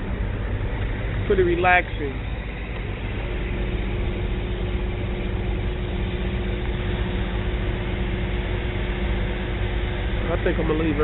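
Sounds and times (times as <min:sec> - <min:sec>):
low mechanical drone: 0:00.0 - 0:11.0
thin steady hum: 0:00.0 - 0:11.0.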